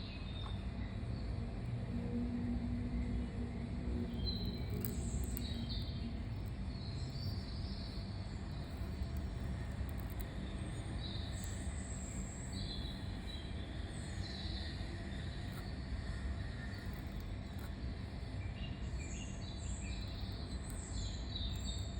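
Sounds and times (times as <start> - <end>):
small birds chirping: 2.5 - 21.9.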